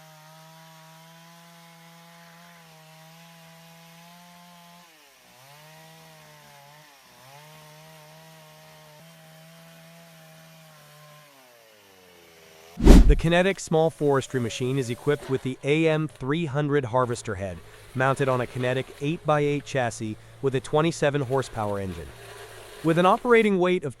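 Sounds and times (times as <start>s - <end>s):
chainsaw cutting logs: 0.0s - 23.6s.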